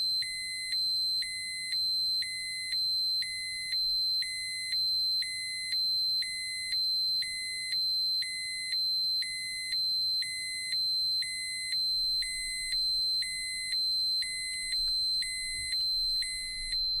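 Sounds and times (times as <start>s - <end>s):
continuous high alarm tone: 0.1s - 17.0s.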